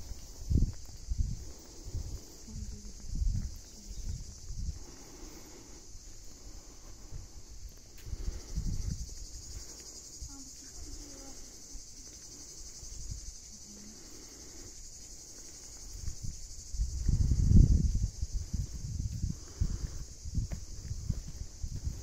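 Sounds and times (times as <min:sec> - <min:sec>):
wind buffeting microphone: 0:00.0 - 0:13.4, 0:15.2 - 0:22.0
insect chorus buzzing: 0:00.0 - 0:22.0.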